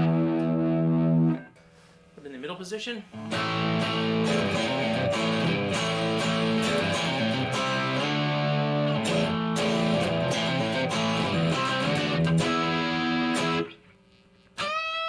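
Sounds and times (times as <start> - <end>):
electric guitar chords and notes: 0.0 - 1.6, 3.2 - 13.9, 14.5 - 15.0.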